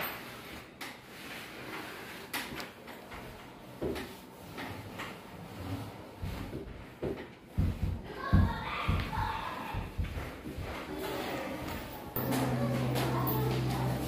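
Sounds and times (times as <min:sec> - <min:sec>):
scraping and light knocks: 0:00.0 - 0:14.0.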